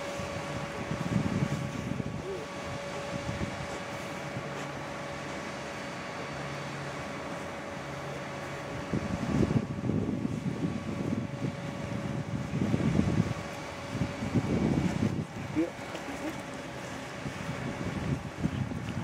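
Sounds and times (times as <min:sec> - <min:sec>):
wind buffeting microphone: 0:00.0 - 0:05.1, 0:07.9 - 0:19.0
faint steady whine: 0:00.0 - 0:19.0
steady low hum: 0:00.0 - 0:19.0.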